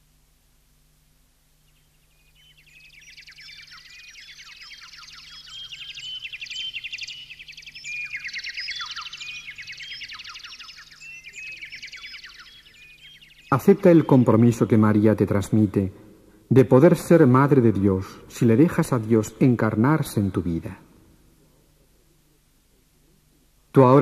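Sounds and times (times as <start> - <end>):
faint low hum: 0.0 - 24.0
birds chirping and trilling: 1.6 - 24.0.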